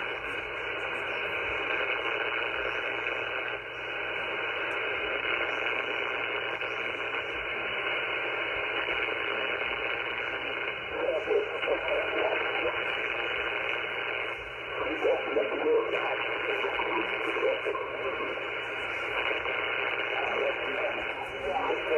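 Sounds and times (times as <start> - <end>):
radio interference hiss: 0.0 - 21.9.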